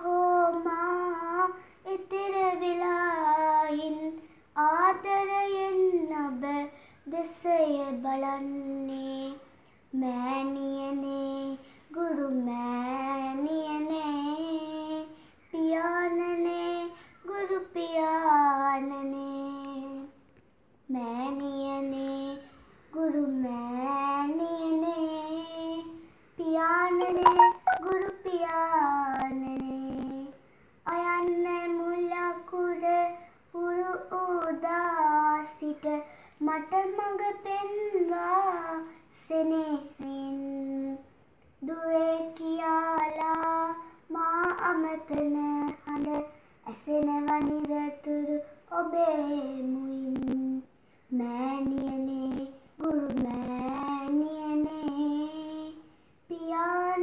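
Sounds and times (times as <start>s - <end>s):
girl singing unaccompanied: 0.0s - 57.0s.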